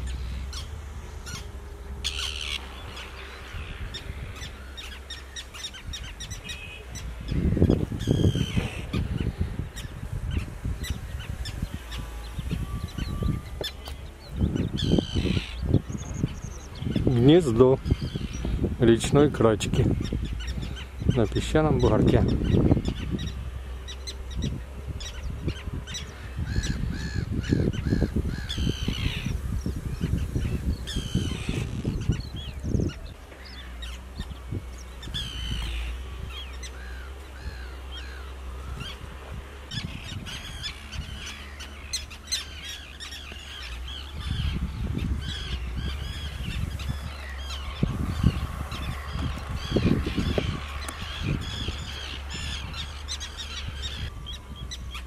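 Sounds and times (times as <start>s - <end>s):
low gusty rumble: 0.0s - 55.0s
terns calling: 0.0s - 55.0s.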